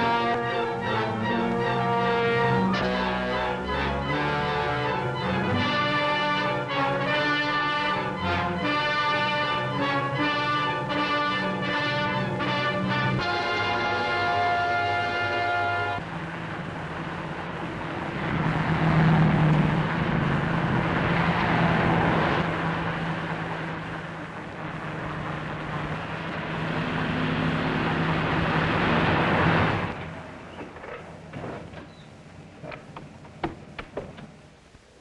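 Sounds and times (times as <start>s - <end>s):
car engine hum: 0.0s - 35.0s
road noise: 0.0s - 35.0s.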